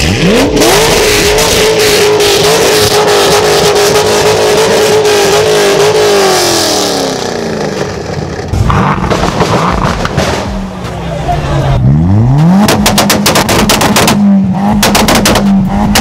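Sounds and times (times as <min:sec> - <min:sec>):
sports car engine revving: 0:00.0 - 0:10.1, 0:11.4 - 0:16.0.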